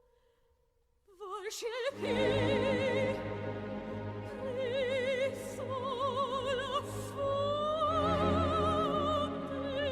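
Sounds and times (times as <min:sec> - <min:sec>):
operatic voice with vibrato: 0:01.2 - 0:09.9
sustained orchestral chords: 0:01.9 - 0:09.9.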